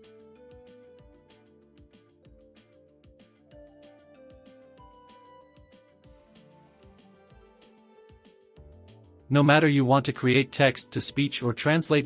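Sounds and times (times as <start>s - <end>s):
faint background music with beat: 0.0s - 12.0s.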